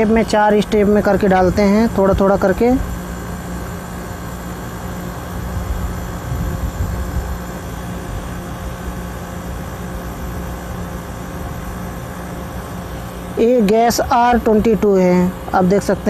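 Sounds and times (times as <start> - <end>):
compressor hum: 0.0 - 16.0
condenser fan noise: 0.0 - 16.0.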